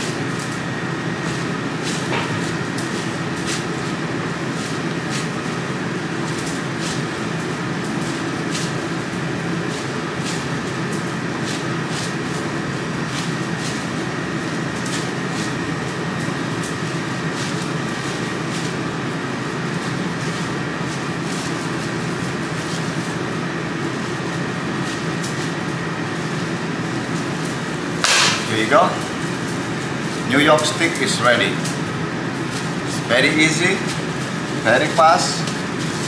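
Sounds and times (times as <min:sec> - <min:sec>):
machinery hum: 0:00.0 - 0:36.0.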